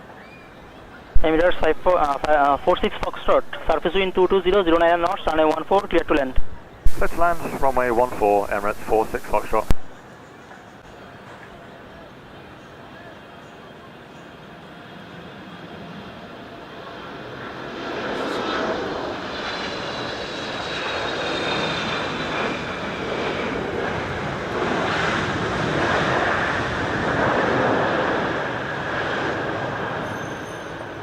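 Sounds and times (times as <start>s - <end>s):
jet airliner engine noise: 0.0s - 31.0s.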